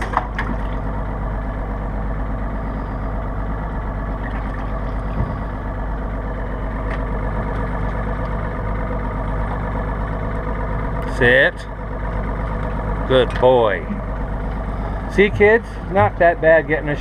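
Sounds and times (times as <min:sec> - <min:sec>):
boat motor idling: 0:00.0 - 0:17.0.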